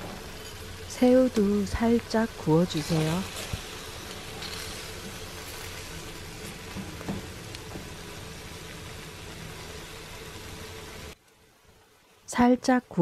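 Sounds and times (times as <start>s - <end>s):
shrimp sizzling in oil: 0.0s - 12.2s.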